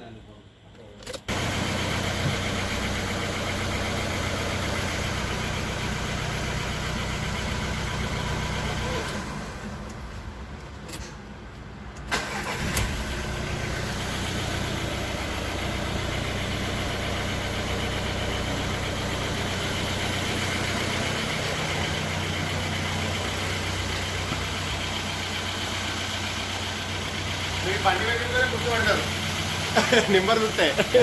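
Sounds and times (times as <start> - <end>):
car engine starting and idling: 1.0 - 31.0.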